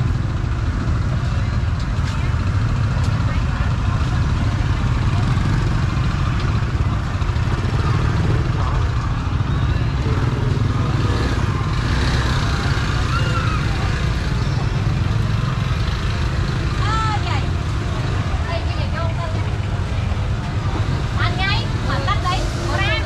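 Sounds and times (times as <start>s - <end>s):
motorbike engines rumbling: 0.0s - 23.0s
people's voices: 0.0s - 23.0s.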